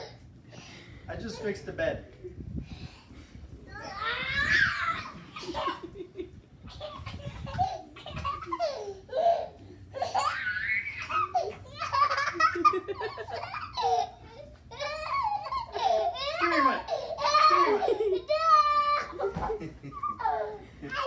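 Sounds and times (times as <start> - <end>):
toddler laughing: 3.8 - 21.0.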